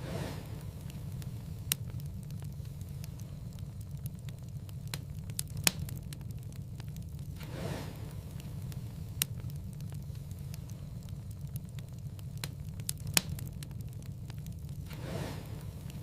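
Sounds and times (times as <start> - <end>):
loud fire pops: 0.0 - 16.0
low steady fire rumble: 0.0 - 16.0
wood fire crackling: 0.0 - 16.0.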